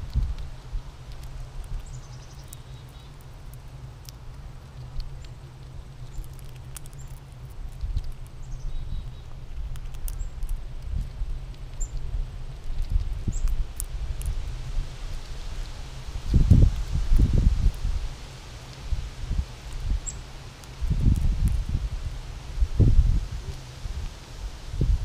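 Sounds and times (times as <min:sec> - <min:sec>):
wind rumbling on microphone: 0:00.0 - 0:02.3, 0:05.8 - 0:25.0
squirrel husking seeds clicks: 0:00.0 - 0:22.0, 0:23.4 - 0:24.4.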